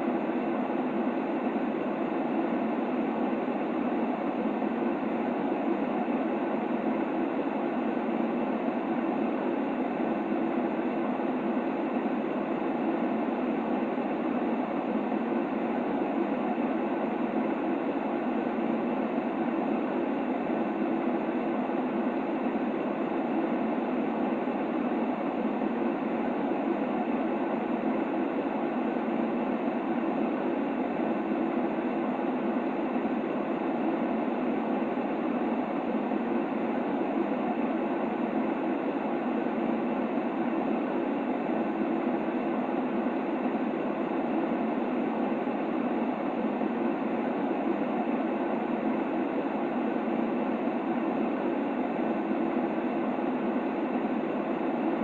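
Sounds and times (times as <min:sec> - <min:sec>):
muffled white noise: 0:00.0 - 0:55.0.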